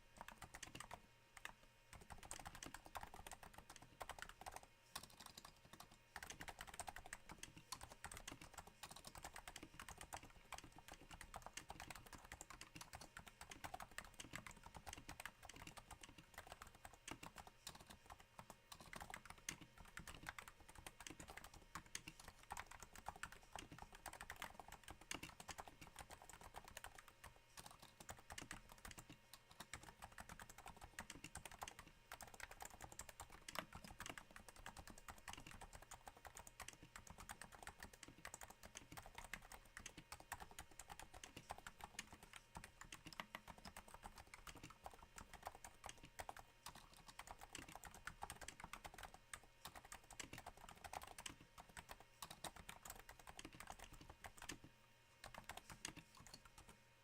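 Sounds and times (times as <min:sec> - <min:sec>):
quiet keyboard typing: 0:00.0 - 0:56.8.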